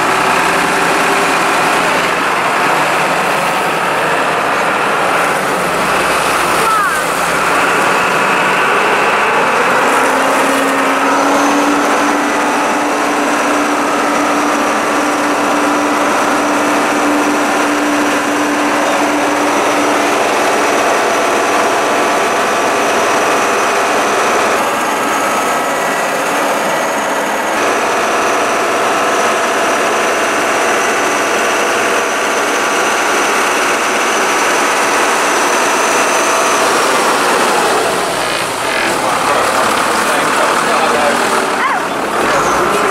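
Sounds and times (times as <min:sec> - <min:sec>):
vehicle engine and drive running: 0:00.0 - 0:42.9
water churning around wheels: 0:00.0 - 0:42.9.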